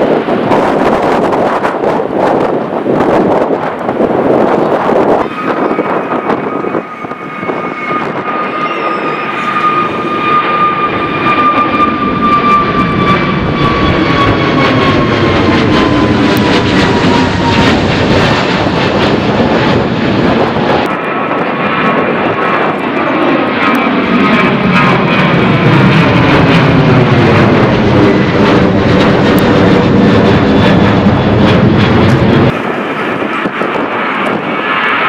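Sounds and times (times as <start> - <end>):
jet engines roaring with whine: 0.0 - 35.0
second jet engine roar: 0.0 - 35.0.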